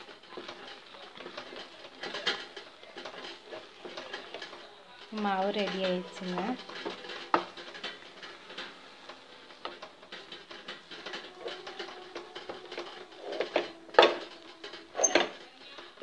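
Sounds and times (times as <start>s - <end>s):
wooden spatula scraping a pan: 0.0s - 16.0s.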